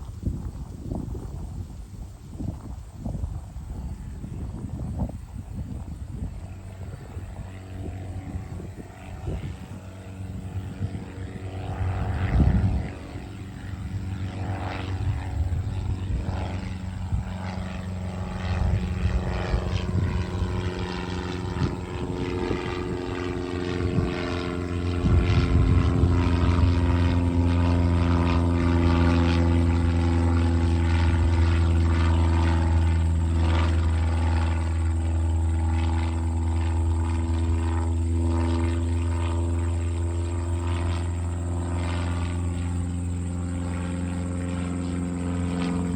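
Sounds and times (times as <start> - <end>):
propeller plane engine drone: 0.0 - 45.9
wind noise on microphone: 0.0 - 45.9.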